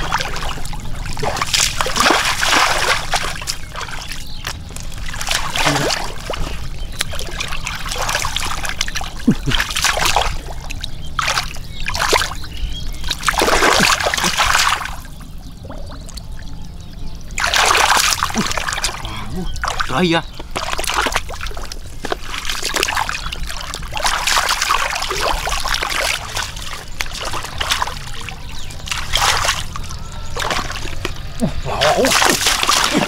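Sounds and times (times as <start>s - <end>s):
muddy water splashing: 0.0s - 33.0s
steady low rumble: 0.0s - 33.0s.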